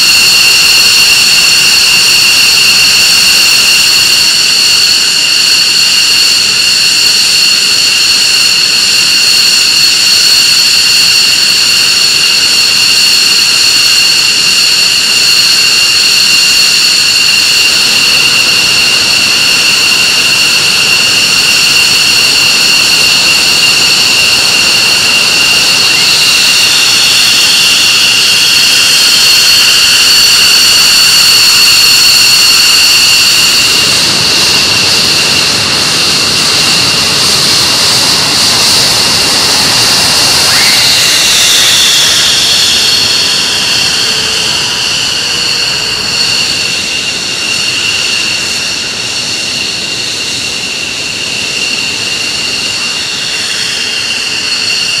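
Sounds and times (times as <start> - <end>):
jet engines idling whine: 0.0 - 55.0
jet noise rush: 0.0 - 55.0
whine sliding down in pitch: 0.0 - 55.0.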